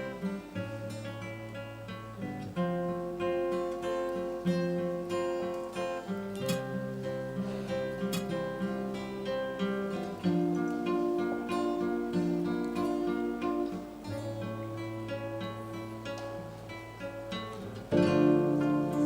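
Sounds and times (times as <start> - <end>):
acoustic guitar slow chords: 0.0 - 19.0.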